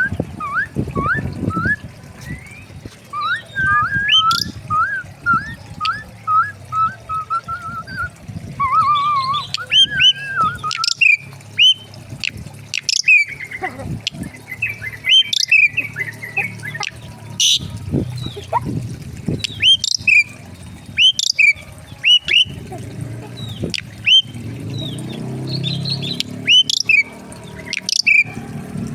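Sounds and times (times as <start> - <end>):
birds chirping and squawking: 0.0 - 28.4
birds warbling whistles: 0.0 - 28.4.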